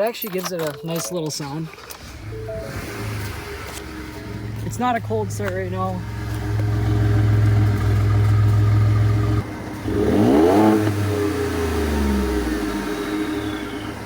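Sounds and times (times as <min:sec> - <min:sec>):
truck engine idling and revving: 0:01.6 - 0:14.0.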